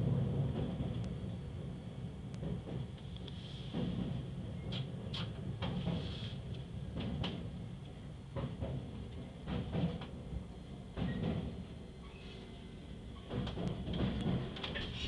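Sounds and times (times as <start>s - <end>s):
train wheels clattering over rails: 0.0s - 1.1s, 2.3s - 15.0s
train rumbling: 0.0s - 15.0s.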